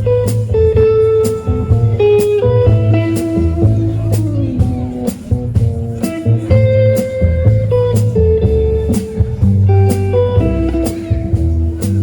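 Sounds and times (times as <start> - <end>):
bass line: 0.0 - 12.0
drums steady beat: 0.0 - 12.0
electric guitar lead line: 0.0 - 12.0.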